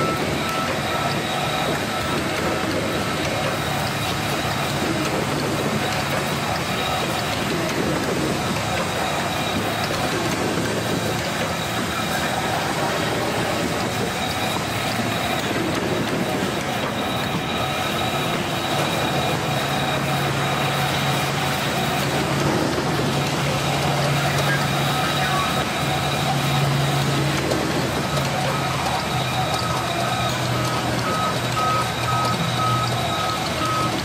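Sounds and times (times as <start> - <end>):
paper cutter mechanical drone: 0.0 - 34.0.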